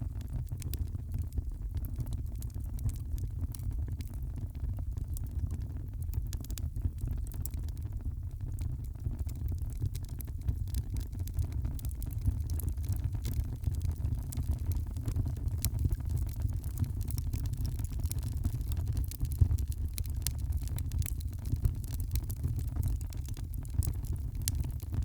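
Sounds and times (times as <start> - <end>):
low fire rumble: 0.0 - 25.0
wood fire crackling: 0.1 - 25.0.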